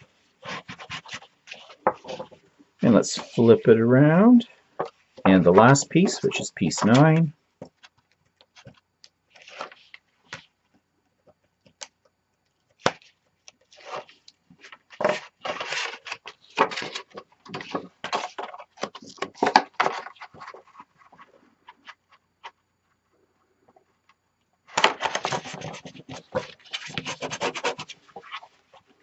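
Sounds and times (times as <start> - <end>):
cardboard rustling and scraping: 0.0 - 10.5, 13.0 - 22.6, 24.7 - 29.0.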